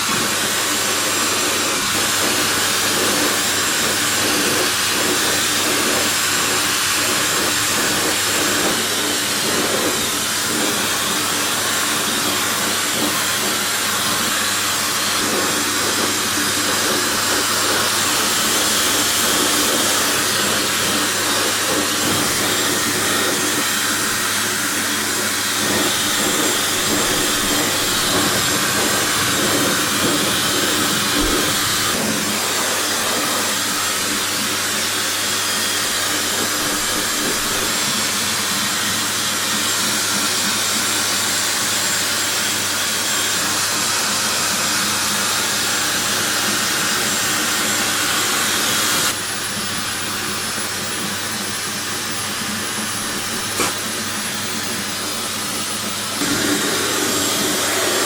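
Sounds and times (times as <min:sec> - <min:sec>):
hair dryer blowing: 0:00.0 - 0:58.0.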